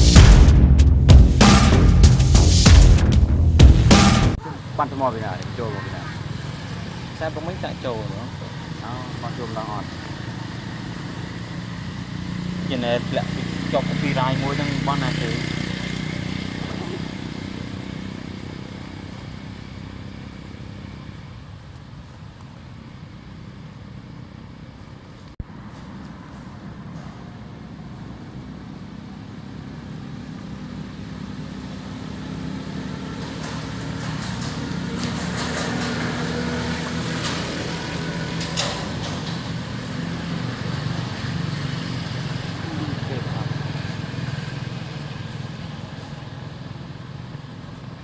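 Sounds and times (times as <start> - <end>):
vehicle engine running: 0.0 - 25.5, 26.2 - 48.0.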